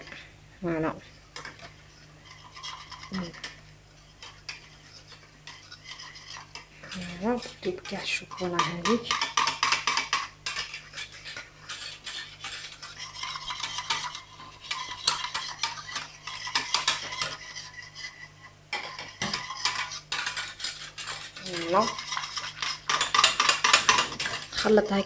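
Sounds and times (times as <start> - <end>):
metal whisk scraping saucepan: 1.1 - 25.0.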